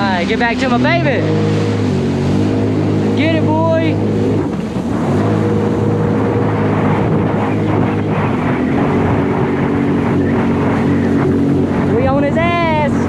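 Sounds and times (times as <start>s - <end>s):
jet ski engine running: 0.0s - 13.0s
rushing water and wind: 0.0s - 13.0s.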